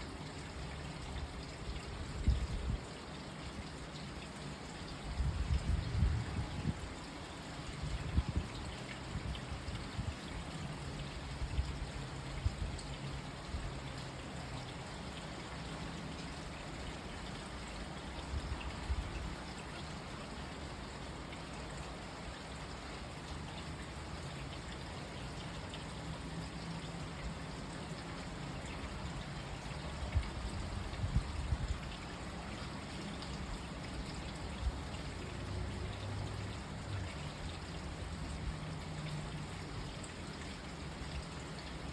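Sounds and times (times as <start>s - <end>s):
runoff water trickling: 0.0s - 41.9s
steady rain: 0.0s - 41.9s.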